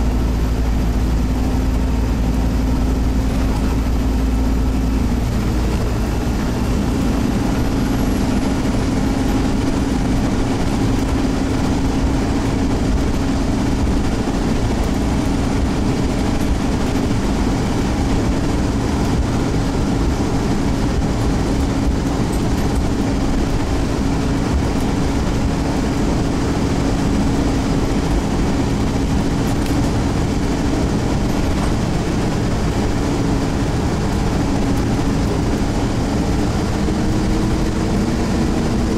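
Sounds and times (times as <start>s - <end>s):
bus diesel engine drone: 0.0s - 38.9s
road noise: 0.0s - 38.9s.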